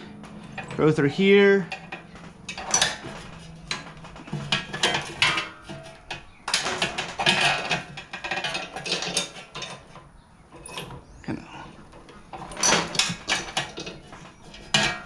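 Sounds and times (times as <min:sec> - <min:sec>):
roller chain clinking and rattling: 0:00.0 - 0:11.0, 0:11.9 - 0:15.0.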